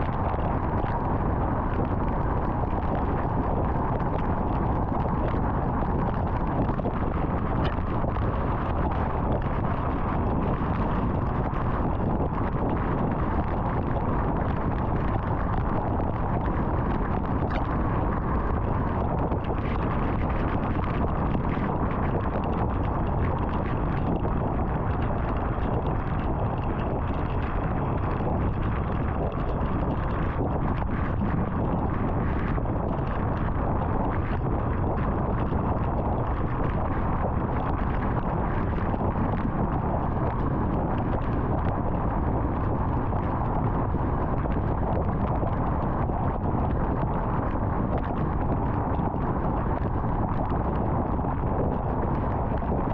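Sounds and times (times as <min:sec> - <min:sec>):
tyre and wind noise: 0:00.0 - 0:52.9.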